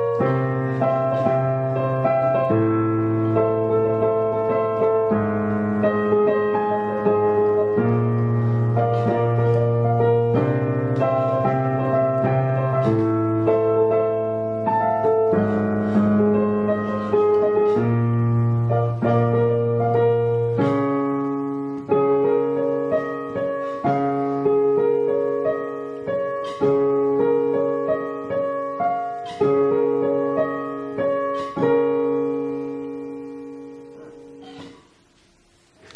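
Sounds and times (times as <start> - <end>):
digital piano playing slowly: 0.0 - 35.9.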